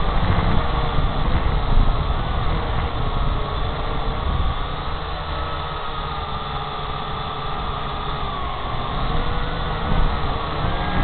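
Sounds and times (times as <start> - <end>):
drone motors whining: 0.0 - 11.0
wind rumble on microphone: 0.0 - 11.0.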